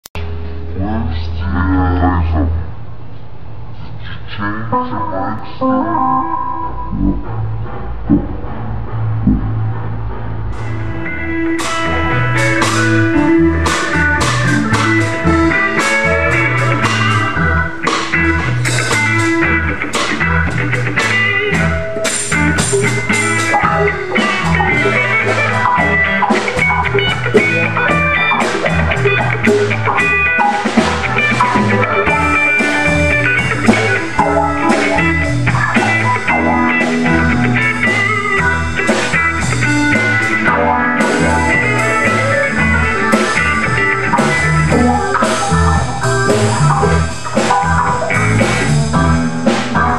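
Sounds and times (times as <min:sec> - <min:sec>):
bass guitar line: 0:00.0 - 0:49.9
electric guitar: 0:00.0 - 0:49.9
drum kit beat: 0:06.9 - 0:49.9.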